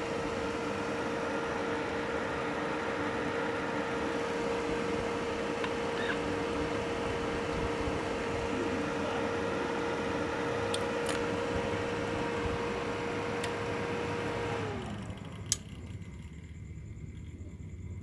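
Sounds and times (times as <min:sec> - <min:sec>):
welding machine cooling fan whirring: 0:00.0 - 0:18.0.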